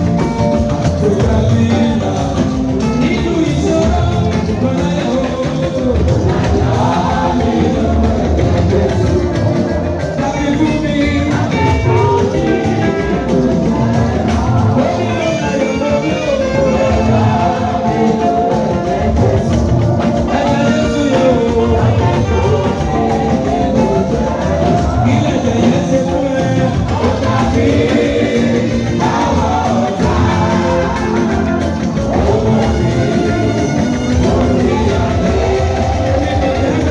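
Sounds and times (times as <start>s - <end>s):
choir singing with accompaniment: 0.0s - 36.9s.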